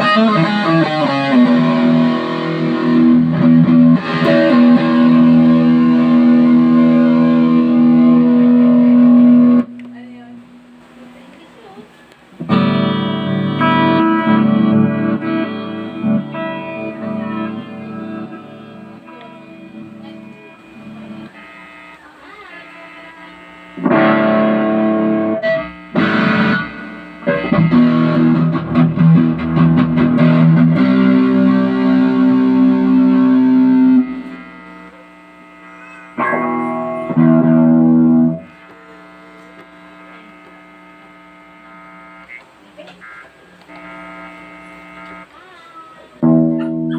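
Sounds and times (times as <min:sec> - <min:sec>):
electric guitar chords: 0:00.0 - 0:11.2, 0:12.3 - 0:45.4, 0:46.0 - 0:46.9.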